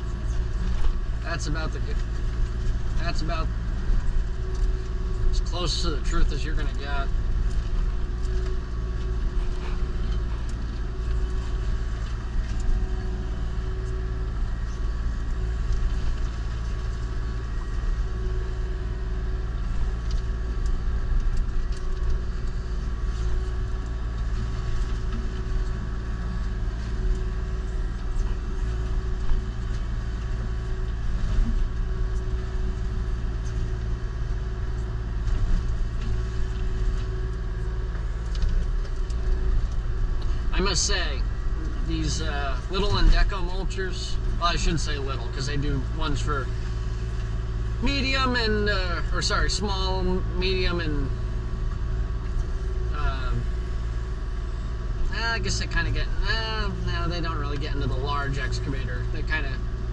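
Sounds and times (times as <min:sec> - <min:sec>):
excavator diesel engine and hydraulics: 0:00.0 - 0:59.9
mulcher head tone: 0:00.0 - 0:59.9.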